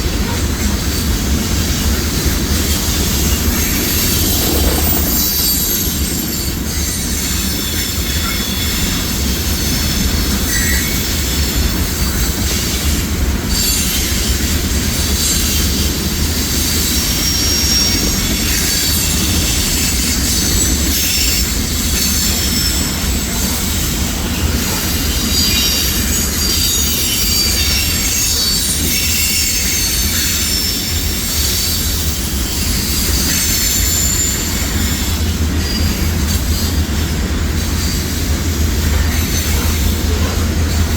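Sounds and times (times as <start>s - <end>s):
train wheels rumbling on rail: 0.0s - 40.9s
wheels squealing: 1.8s - 12.8s, 13.5s - 40.9s.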